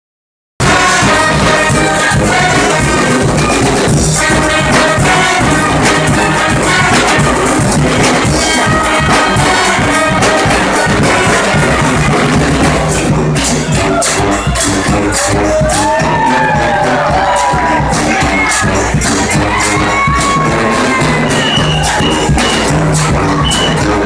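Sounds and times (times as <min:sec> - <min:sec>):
brass band playing: 0:00.6 - 0:24.0.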